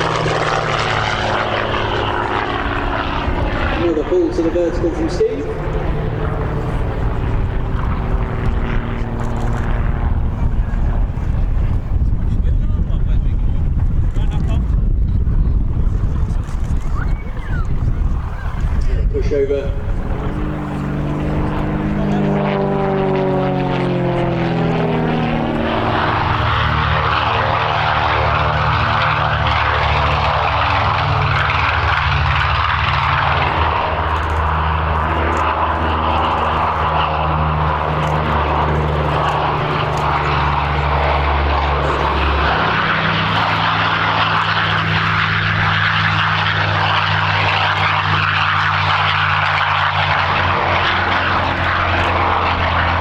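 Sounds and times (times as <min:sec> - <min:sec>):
propeller plane engine drone: 0:00.0 - 0:53.0.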